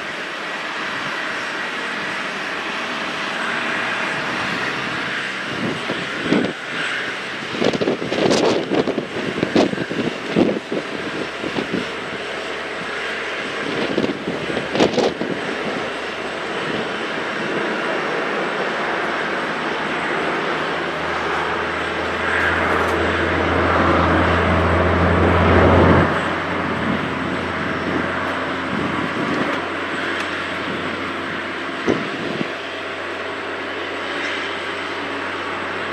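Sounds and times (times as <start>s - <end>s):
irregular louder engine bursts: 0.0s - 35.9s
jet engines roaring: 0.0s - 35.9s.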